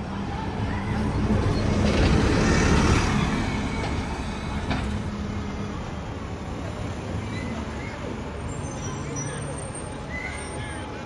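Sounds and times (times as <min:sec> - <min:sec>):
bus driving past: 0:00.0 - 0:11.0.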